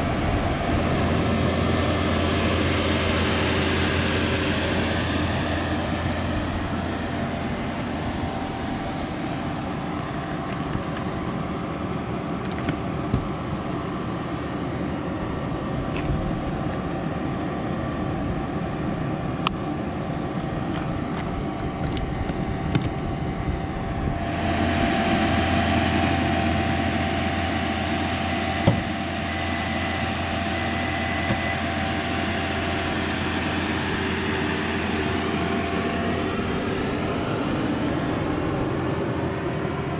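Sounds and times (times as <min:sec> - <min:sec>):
faint whine: 0:00.0 - 0:39.9
road and tyre noise: 0:00.0 - 0:39.9.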